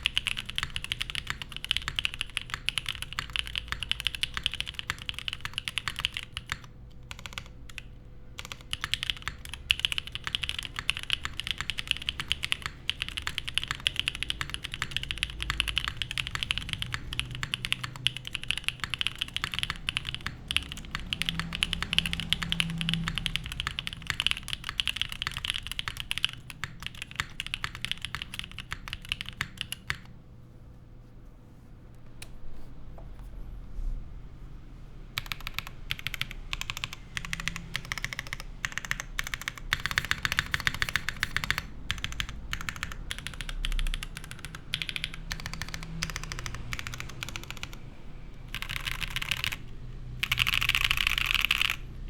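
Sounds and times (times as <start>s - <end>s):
mechanical keyboard typing: 0.0s - 30.2s, 35.2s - 52.0s.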